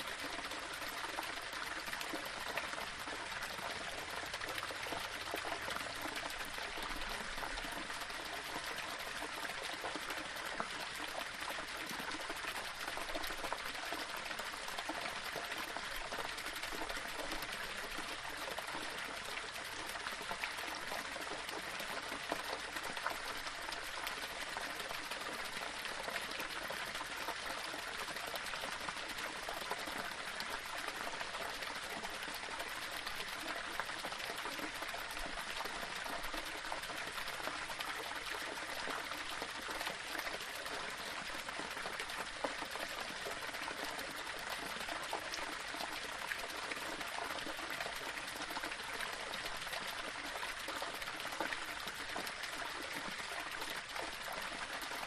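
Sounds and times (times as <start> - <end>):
small waterfall over rocks: 0.0 - 55.0.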